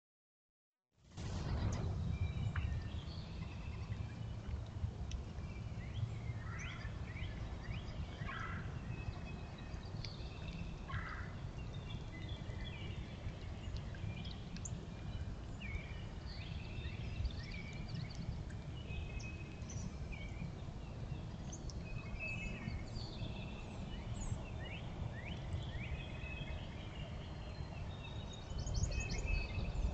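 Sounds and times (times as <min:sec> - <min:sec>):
steady low rumble: 0:01.1 - 0:29.9.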